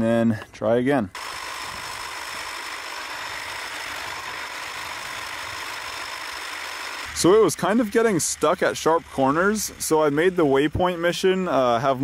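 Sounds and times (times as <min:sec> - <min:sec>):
rough gear noise: 0:01.1 - 0:12.0
electric motor whine: 0:01.2 - 0:12.0.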